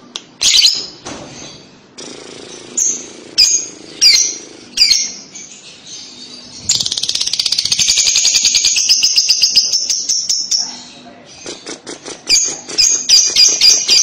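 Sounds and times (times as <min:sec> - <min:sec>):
lovebird calls: 0:02.5 - 0:14.0
lovebird chattering trill: 0:02.5 - 0:14.0.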